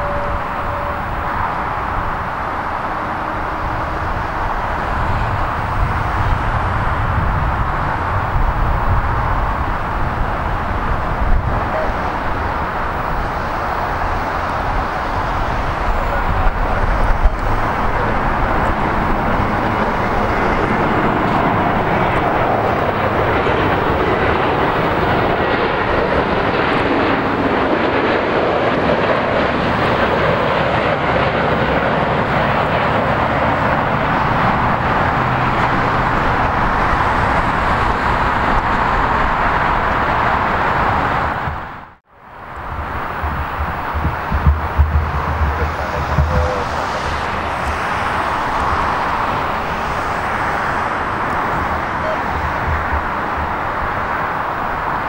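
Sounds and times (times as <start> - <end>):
jet airliner flying past low: 0.0 - 55.0.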